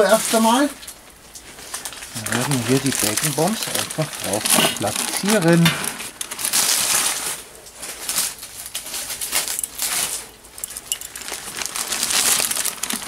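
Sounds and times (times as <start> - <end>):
paper wrapping rustling: 0.0 - 13.0.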